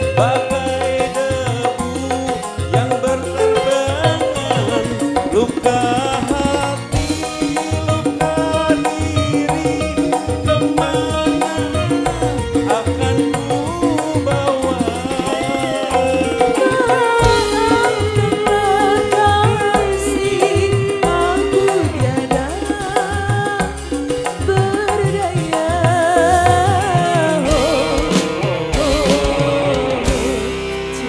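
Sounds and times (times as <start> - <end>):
hand drums: 0.0 - 31.0
live band music: 0.0 - 31.0
woman singing: 0.0 - 31.0.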